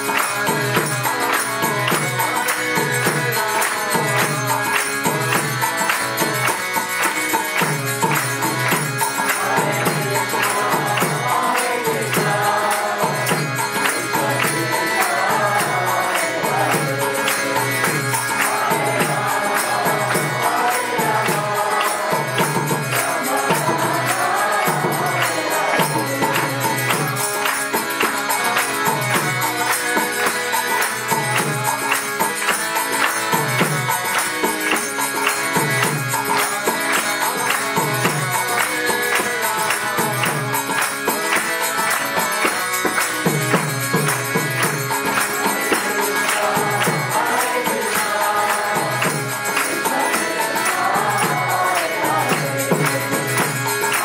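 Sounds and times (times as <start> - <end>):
drum and hand percussion: 0.0 - 54.0.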